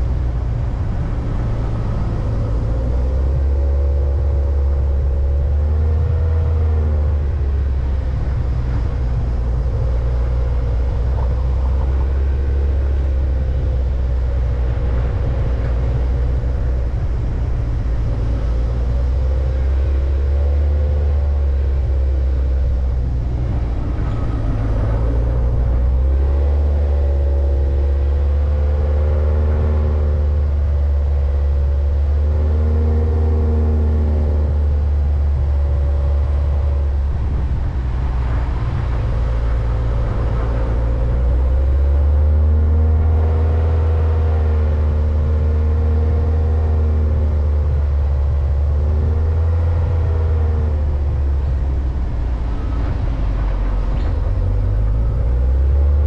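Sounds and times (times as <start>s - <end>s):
heavy low rumble: 0.0s - 56.0s
vehicle engine running: 0.0s - 56.0s.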